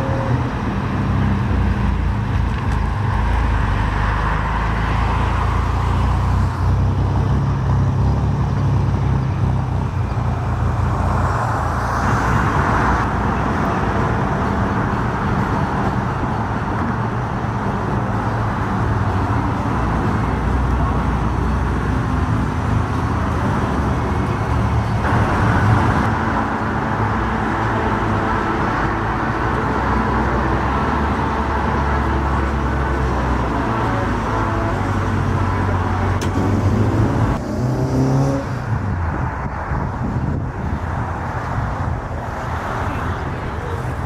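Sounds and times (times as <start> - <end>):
car engines rumbling: 0.0 - 44.0.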